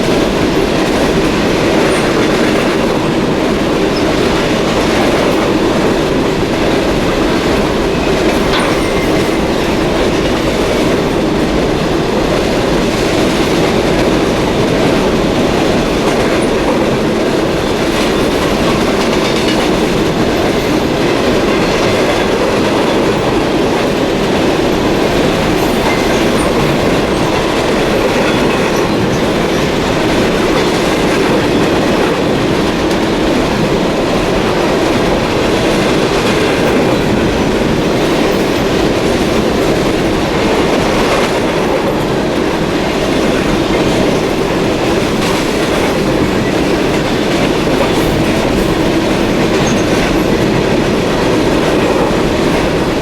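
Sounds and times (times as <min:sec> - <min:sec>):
freight train wheels on rails: 0:00.0 - 0:53.0.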